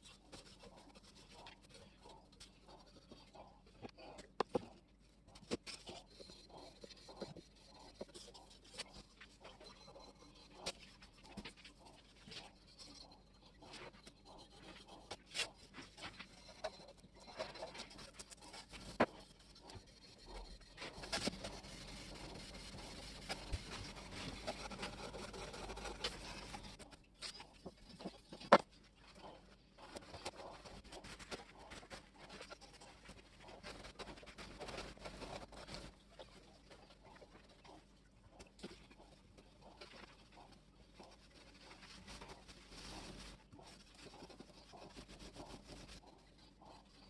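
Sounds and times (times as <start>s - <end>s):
steady rubbing: 0.0s - 47.0s.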